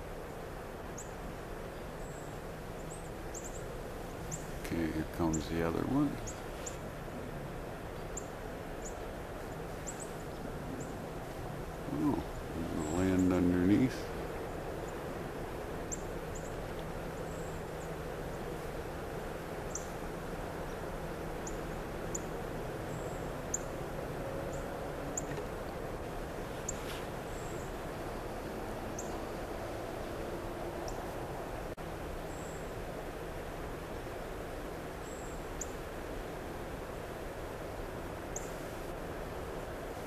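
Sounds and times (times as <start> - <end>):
faint low hum: 0.0 - 40.0
small birds chipping: 0.0 - 40.0.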